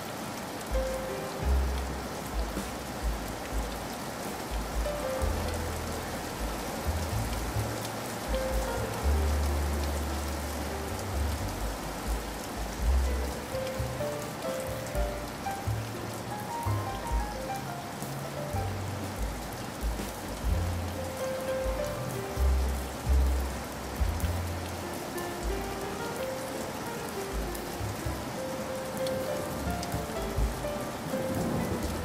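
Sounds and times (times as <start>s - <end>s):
heavy rain: 0.0s - 32.0s
soft background music: 0.0s - 32.0s.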